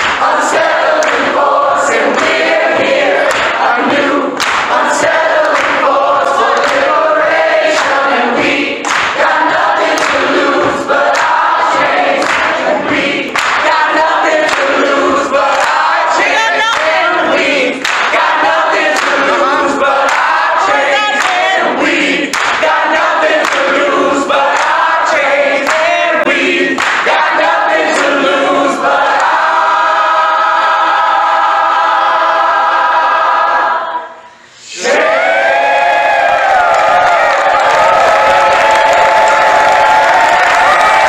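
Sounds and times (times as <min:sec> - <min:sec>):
group of voices singing: 0:00.0 - 0:41.0.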